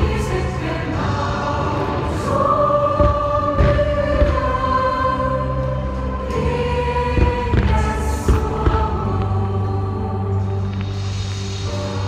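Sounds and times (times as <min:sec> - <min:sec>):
choir singing sustained notes: 0:00.0 - 0:12.0.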